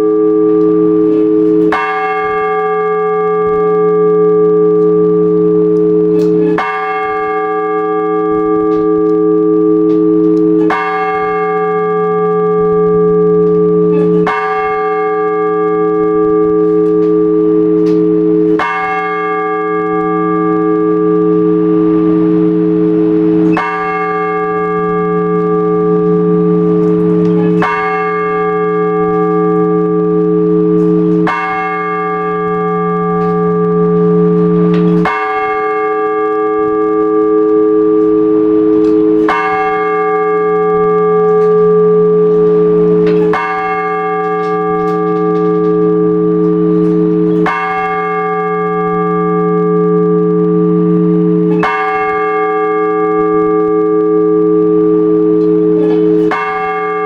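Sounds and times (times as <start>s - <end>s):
large church bell tolling: 0.0s - 57.0s.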